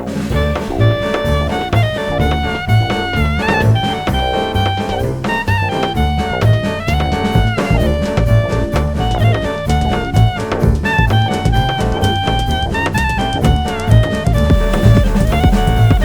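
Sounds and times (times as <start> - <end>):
brass lead line: 0.0 - 16.0
drum kit beat: 0.0 - 16.0
upbeat jazz music: 0.0 - 16.0.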